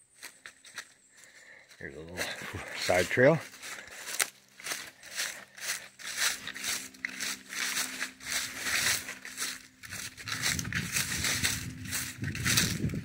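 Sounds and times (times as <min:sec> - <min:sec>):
footsteps crunching through dry leaves: 0:00.0 - 0:13.0.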